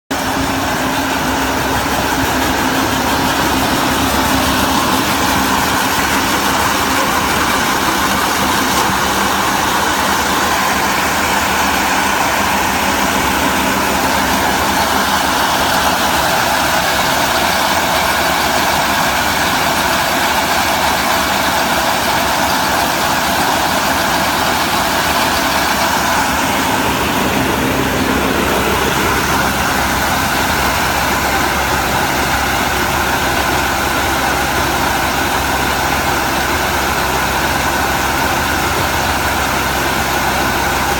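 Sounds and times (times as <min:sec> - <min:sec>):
hay baler machinery drone: 0:00.1 - 0:40.9.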